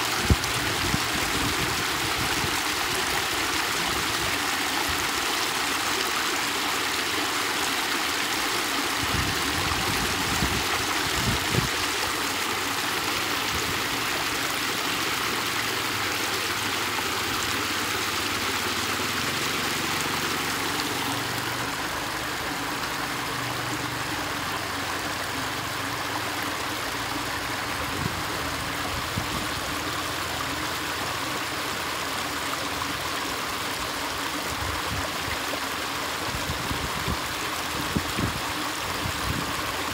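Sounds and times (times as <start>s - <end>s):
water rushing through culvert: 0.0s - 39.9s.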